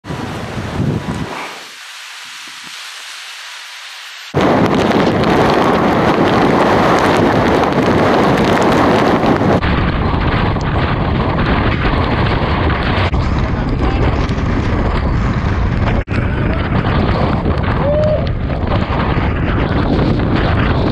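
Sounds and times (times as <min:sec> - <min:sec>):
wind buffeting microphone: 0:00.0 - 0:02.9, 0:04.3 - 0:20.9
storm surf: 0:00.0 - 0:20.9.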